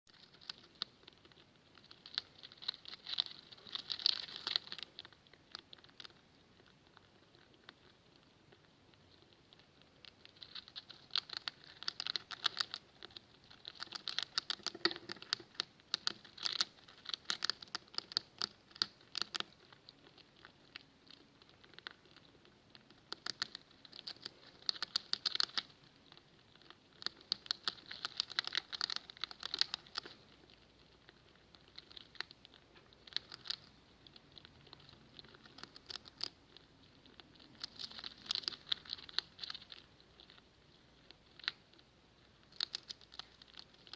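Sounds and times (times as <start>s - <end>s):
rats clicking and scratching: 0.1s - 43.9s.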